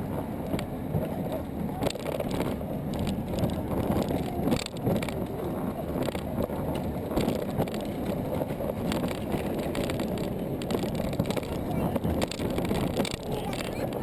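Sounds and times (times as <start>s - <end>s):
kart wheels rattling on pavement: 0.0s - 14.0s
small clicks and knocks: 0.4s - 14.0s.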